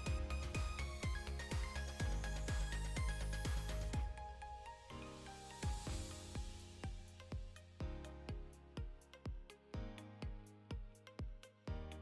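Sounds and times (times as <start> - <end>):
kick drum beat: 0.0 - 4.2, 5.6 - 12.0.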